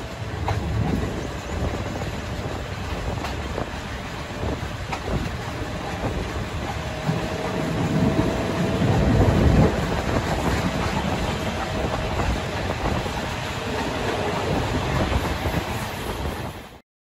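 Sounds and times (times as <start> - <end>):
train wheels rumbling on track: 0.0 - 16.8
wind noise: 0.0 - 16.8.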